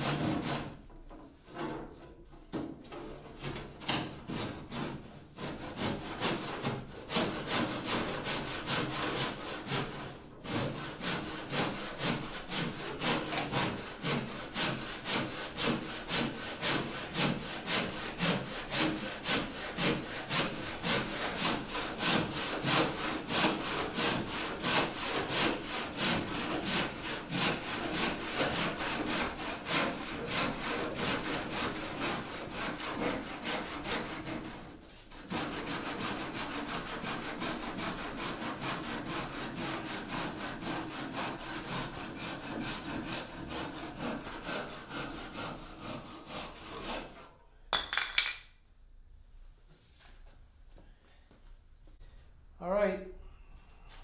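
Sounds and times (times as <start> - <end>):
hand saw cutting wood: 0.0 - 47.4.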